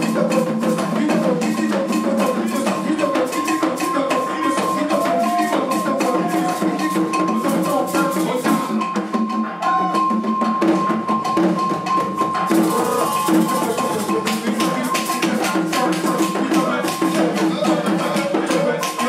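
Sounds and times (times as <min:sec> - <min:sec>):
men singing into microphones: 0:00.0 - 0:19.0
percussion rhythm with clicks: 0:00.0 - 0:19.0.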